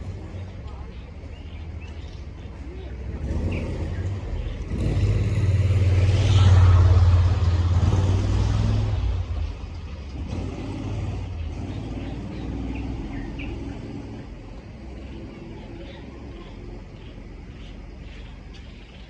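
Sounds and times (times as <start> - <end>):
vehicle engine passing by: 1.5 - 19.0.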